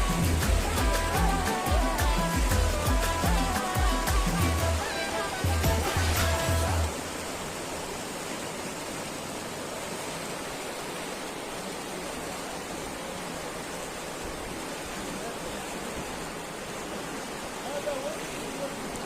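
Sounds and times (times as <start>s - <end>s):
river rushing in flood: 0.0s - 19.0s.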